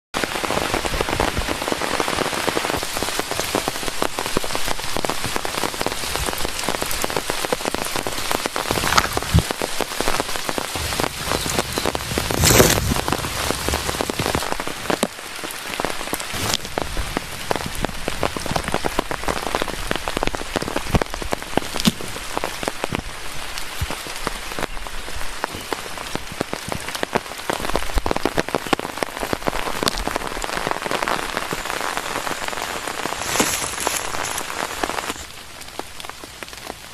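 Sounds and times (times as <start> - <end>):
steady rain on foliage: 0.2 - 36.9.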